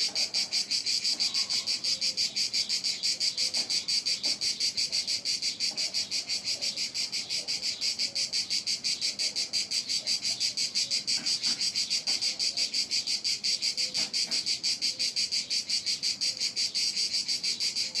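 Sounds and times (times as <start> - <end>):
insect chirping: 0.0 - 18.0.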